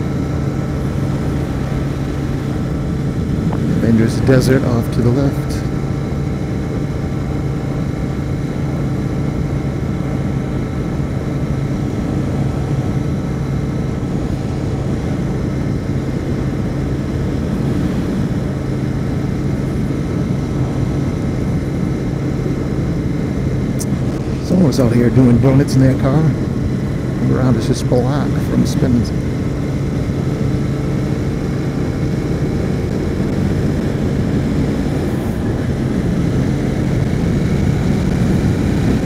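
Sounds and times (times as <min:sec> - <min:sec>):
motorcycle engine cruising: 0:00.0 - 0:39.0
road and wind noise: 0:00.0 - 0:39.0.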